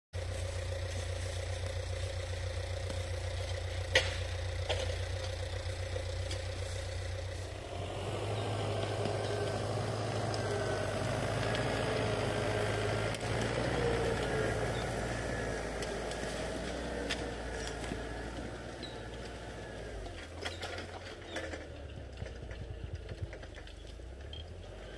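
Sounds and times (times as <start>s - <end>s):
tractor engine running: 0.1s - 24.9s.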